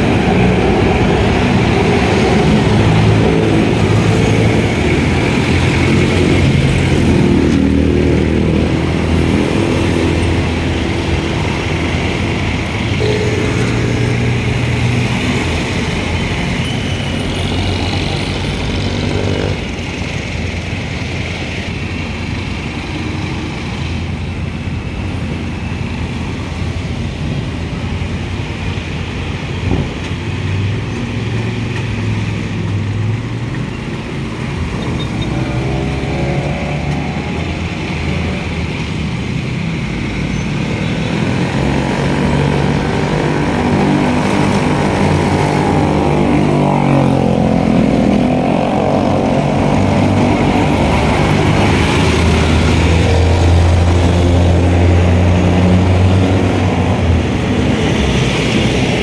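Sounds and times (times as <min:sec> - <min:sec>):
diesel vehicles passing close: 0:00.0 - 0:59.0
road traffic engines: 0:00.0 - 0:59.0.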